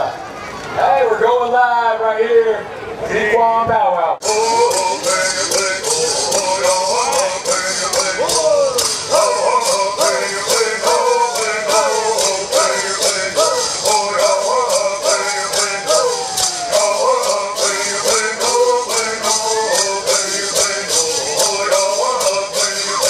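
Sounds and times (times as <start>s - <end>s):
gourd rattles shaken: 4.2s - 23.0s
group of people singing: 4.2s - 23.0s.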